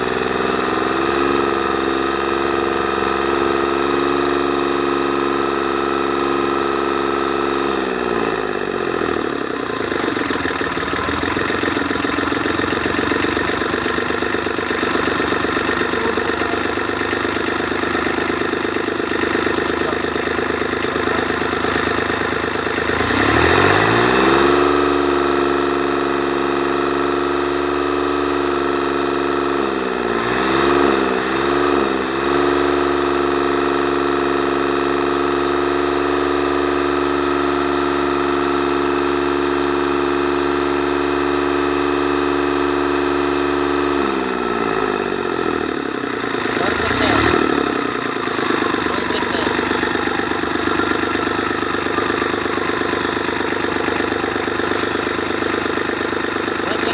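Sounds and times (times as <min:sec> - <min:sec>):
diesel engine revving: 0:00.0 - 0:56.9.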